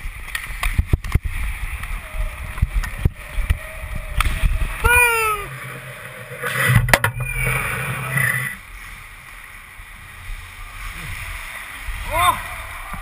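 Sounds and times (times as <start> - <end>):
skates scraping ice: 0.2 - 13.0.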